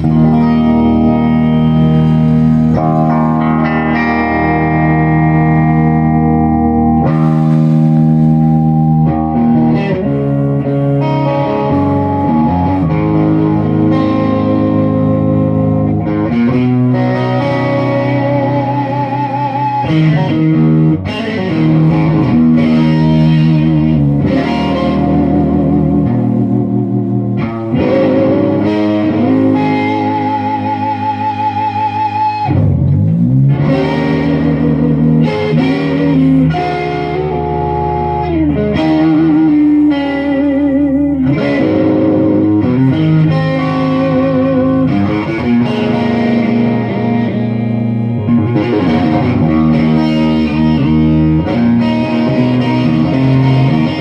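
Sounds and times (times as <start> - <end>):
electric guitar chords ringing: 0.0 - 54.0.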